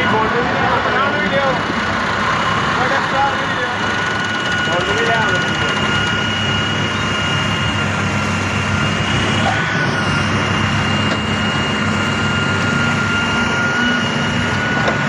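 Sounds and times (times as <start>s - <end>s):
excavator diesel engine running: 0.0s - 15.0s
high-pitched whine: 0.0s - 15.0s.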